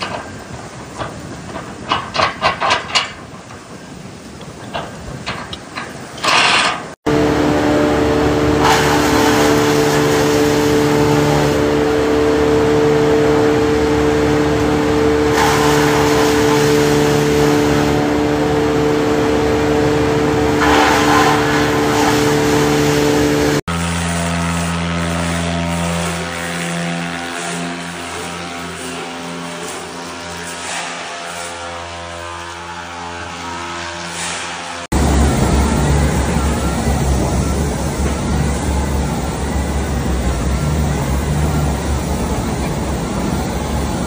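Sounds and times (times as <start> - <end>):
concrete float motor hum: 0.0 - 44.0
wood chipper running: 6.2 - 44.0.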